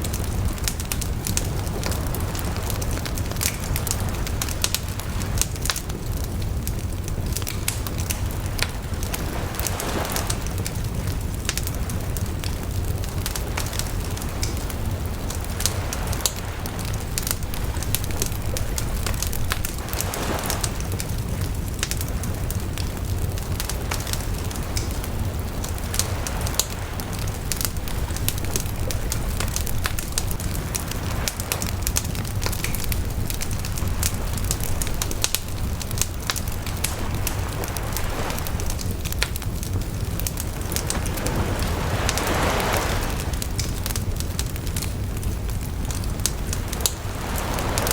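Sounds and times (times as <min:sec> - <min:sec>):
bonfire crackling and popping: 0:00.0 - 0:47.9
rushing flame noise: 0:00.0 - 0:47.9.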